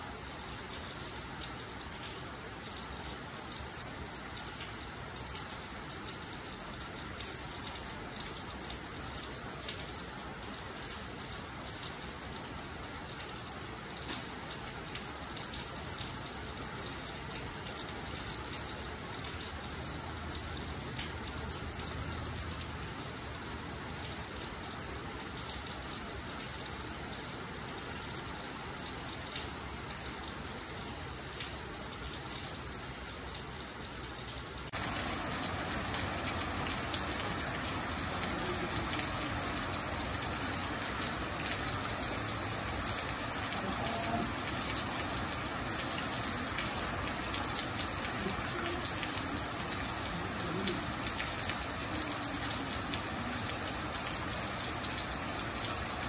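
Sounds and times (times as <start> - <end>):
rain splashing on ground: 0.0 - 56.0.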